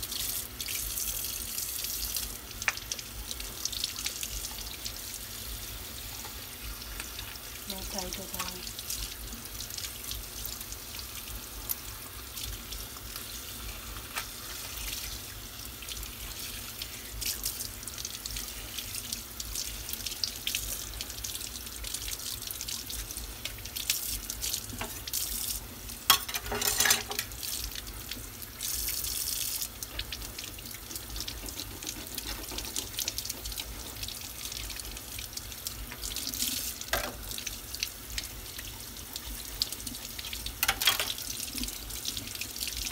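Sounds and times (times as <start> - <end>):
tap water running into sink: 6.0 - 13.3, 13.9 - 42.9.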